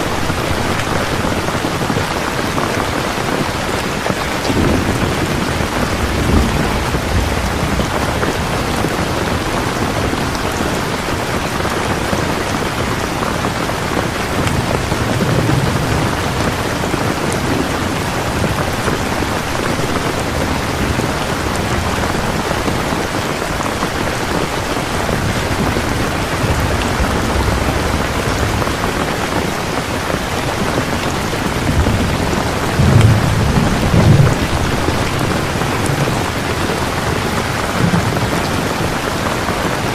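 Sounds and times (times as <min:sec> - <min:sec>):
heavy rain hiss: 0:00.0 - 0:39.9
thunder rumbling: 0:00.0 - 0:39.9.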